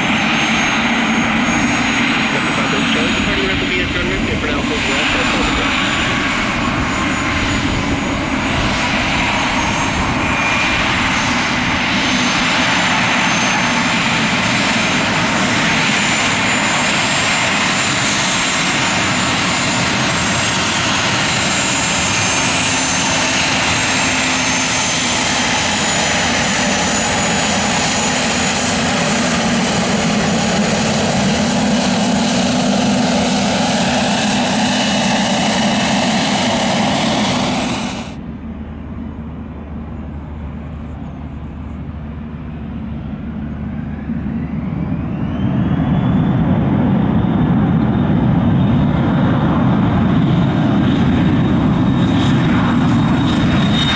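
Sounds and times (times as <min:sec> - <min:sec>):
jet taxiing with high whine: 0:00.0 - 0:53.9.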